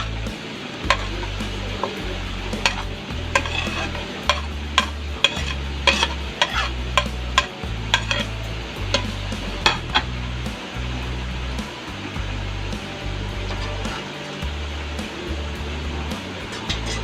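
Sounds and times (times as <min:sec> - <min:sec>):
low rumble: 0:00.0 - 0:17.0
soup bubbling: 0:00.0 - 0:17.0.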